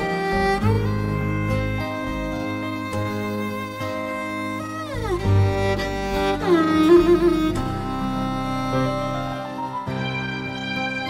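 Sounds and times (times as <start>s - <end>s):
slow background music: 0.0s - 11.0s.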